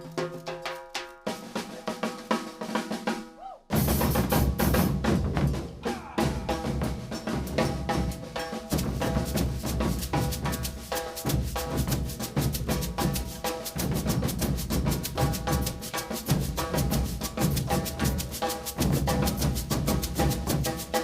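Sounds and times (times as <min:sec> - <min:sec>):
percussion ensemble drumming: 0:00.0 - 0:21.0.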